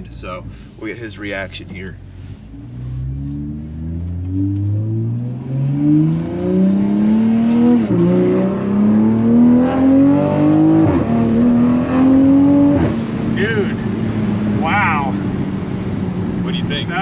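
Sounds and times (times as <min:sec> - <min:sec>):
car engine accelerating hard: 0:00.9 - 0:17.0.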